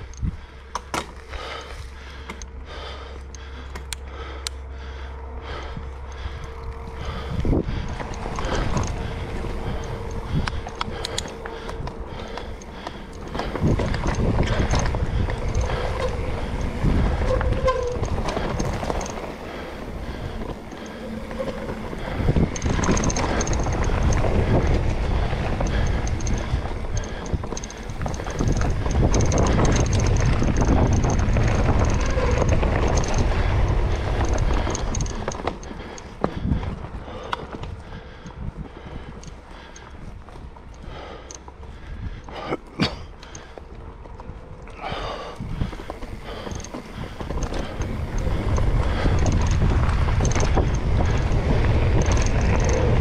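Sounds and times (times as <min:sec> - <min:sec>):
bike clattering over bumps: 0:05.4 - 0:53.0
wind buffeting microphone: 0:05.4 - 0:53.0
tyres rolling over dirt and leaves: 0:06.5 - 0:37.9, 0:41.5 - 0:53.0.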